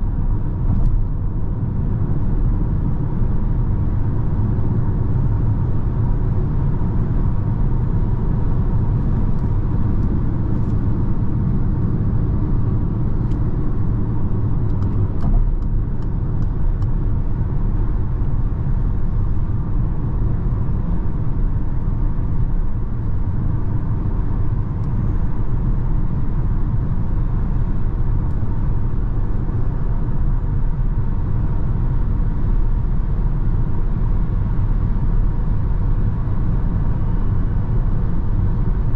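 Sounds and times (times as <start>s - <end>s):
tyres humming on road: 0.0s - 38.9s.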